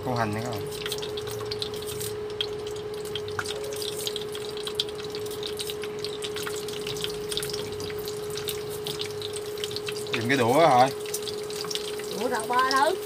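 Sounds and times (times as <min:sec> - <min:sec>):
cooktop hum: 0:00.0 - 0:13.0
oil sizzling in frying pan: 0:00.0 - 0:13.0
crackles and pops: 0:00.6 - 0:13.0.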